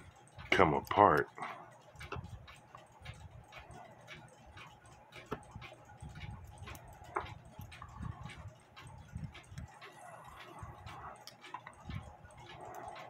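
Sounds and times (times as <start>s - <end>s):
mechanical clock ticking: 0.0s - 13.0s.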